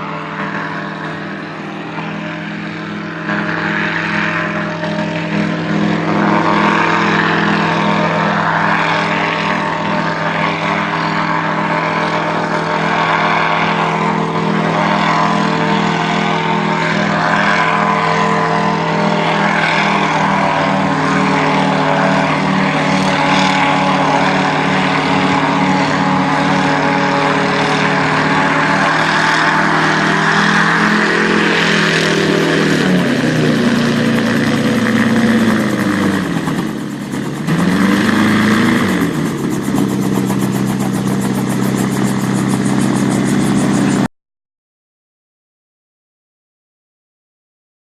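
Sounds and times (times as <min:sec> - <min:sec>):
gyroplane engine and propeller: 0:00.0 - 0:44.1.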